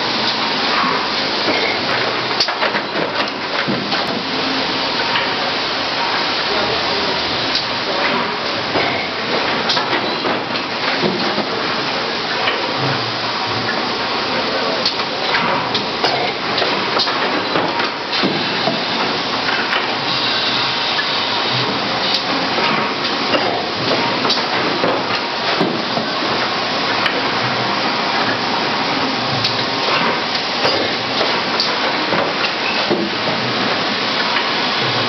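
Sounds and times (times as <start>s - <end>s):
factory machinery hissing din: 0.0s - 35.0s
machinery clanks and knocks: 0.2s - 4.4s, 7.5s - 13.9s, 14.5s - 20.2s, 21.0s - 35.0s.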